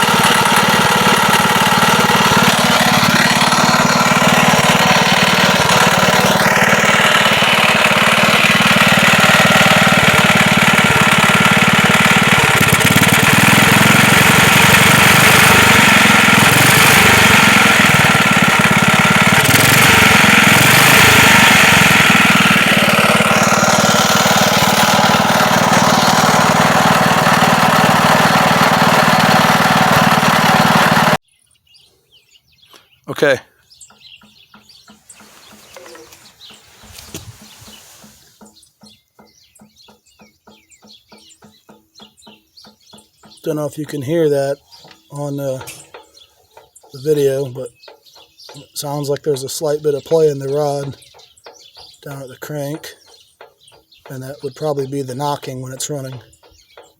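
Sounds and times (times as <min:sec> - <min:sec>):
engine running with a knock: 0:00.0 - 0:31.2, 0:33.8 - 0:56.9.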